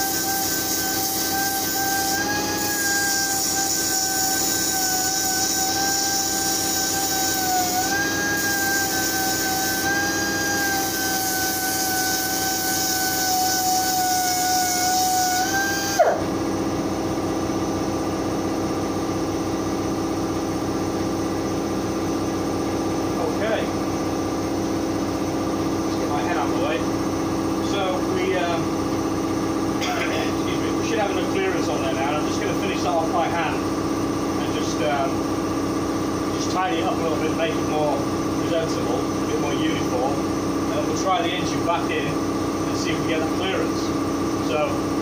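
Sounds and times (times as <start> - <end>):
air belt file whining: 0.0 - 19.2, 20.6 - 45.0
air compressor hum: 0.0 - 45.0.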